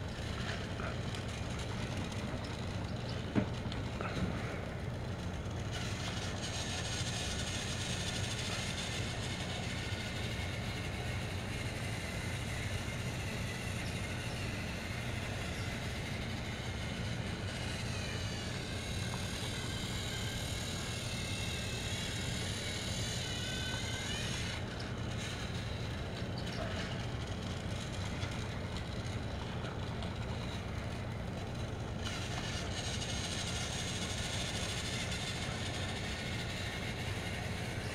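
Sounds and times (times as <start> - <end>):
toy train motor whirring: 0.0 - 37.9.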